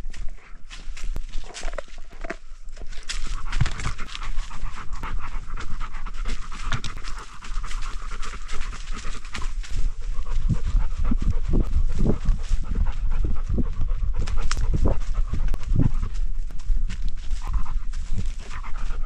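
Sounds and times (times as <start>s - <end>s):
dog panting: 0.1s - 19.0s.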